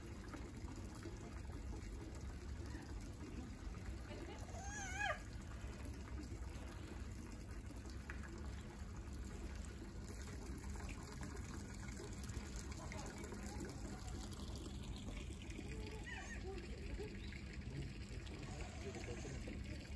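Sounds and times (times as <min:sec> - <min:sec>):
water pouring into plastic tub: 0:00.0 - 0:19.9.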